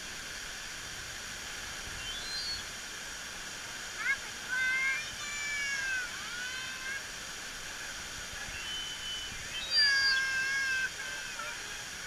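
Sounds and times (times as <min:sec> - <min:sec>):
running water hiss: 0:00.0 - 0:12.0.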